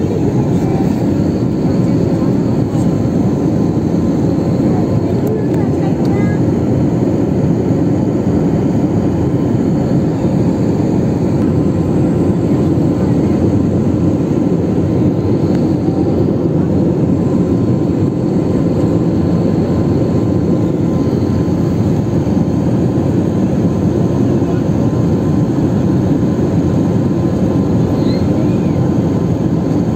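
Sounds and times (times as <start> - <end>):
jet airliner cabin roar: 0.0 - 29.9.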